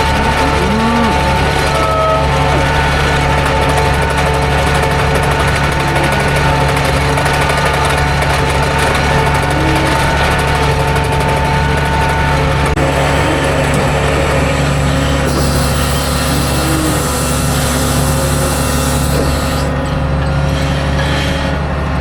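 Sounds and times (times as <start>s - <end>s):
vehicle engine running: 0.0s - 20.7s.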